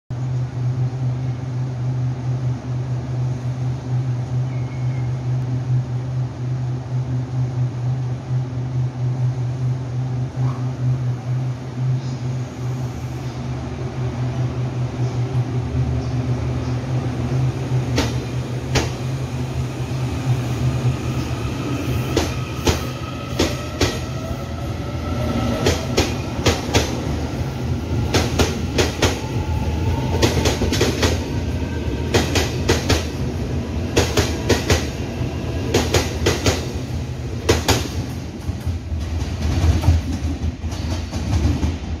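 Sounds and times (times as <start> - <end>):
electric train accelerating past: 0.2 - 42.0.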